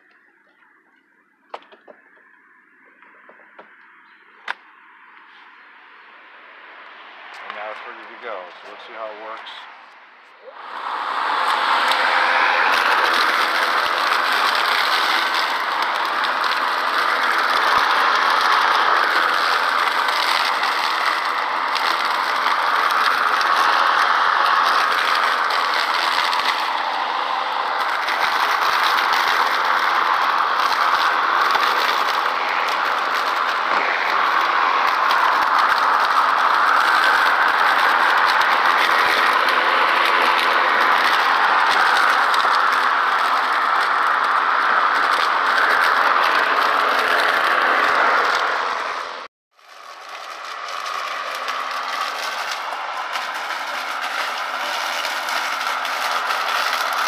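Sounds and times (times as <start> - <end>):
electric lawn mower cutting grass: 10.5 - 57.0.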